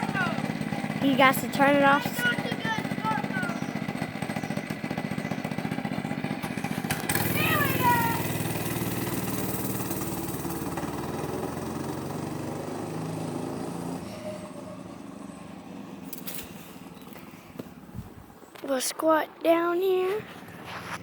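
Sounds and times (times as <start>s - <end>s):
dirt bike engine pulling away: 0.0s - 17.3s.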